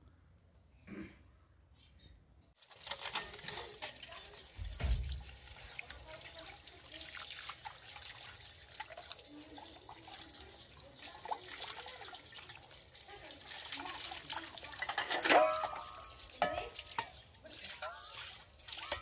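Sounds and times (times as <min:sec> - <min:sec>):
tap water splashing: 0:02.6 - 0:19.0.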